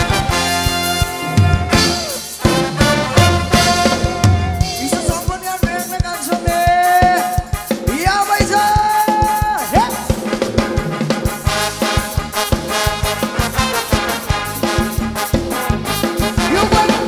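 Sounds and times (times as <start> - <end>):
drums steady beat: 0.0 - 17.0.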